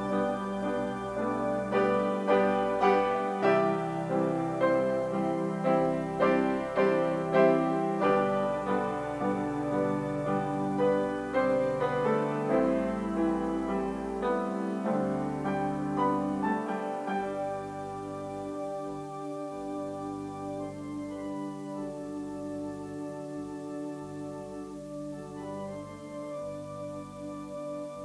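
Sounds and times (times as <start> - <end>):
slow solo piano music: 0.0 - 28.0.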